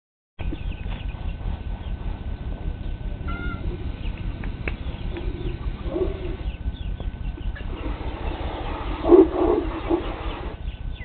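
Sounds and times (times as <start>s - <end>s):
chickens clucking: 0.4s - 11.0s
steady low rumble: 0.4s - 11.0s.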